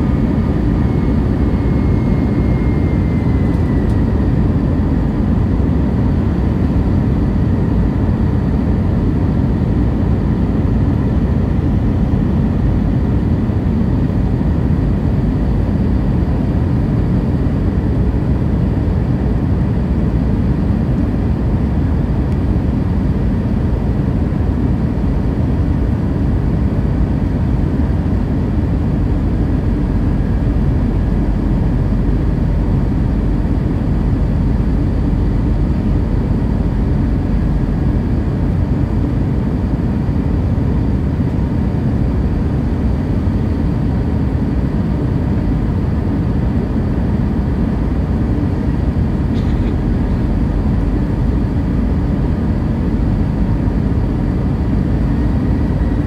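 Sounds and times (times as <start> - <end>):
faint steady whine: 0.0 - 56.0
jet cabin engine rumble: 0.0 - 56.0.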